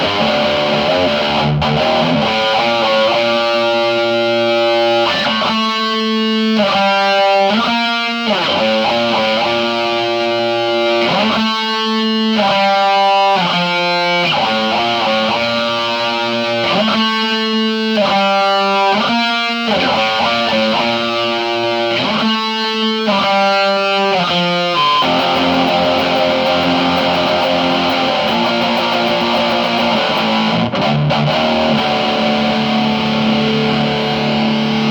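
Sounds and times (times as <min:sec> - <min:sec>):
electric guitar chords: 0:00.0 - 0:34.9.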